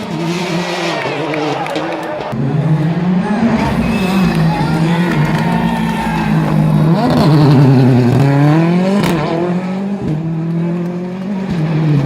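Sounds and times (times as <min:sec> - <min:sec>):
rally car engine at full throttle: 0:00.0 - 0:12.0.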